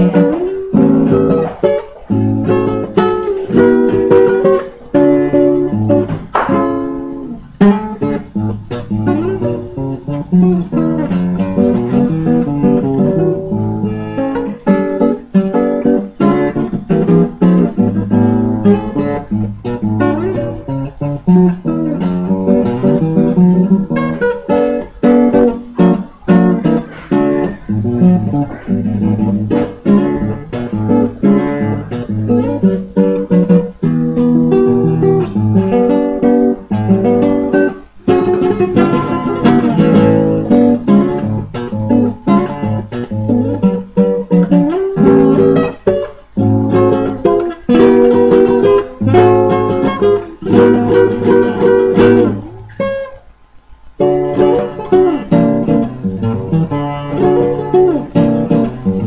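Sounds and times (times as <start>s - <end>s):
fingerstyle acoustic guitar: 0.0s - 59.0s.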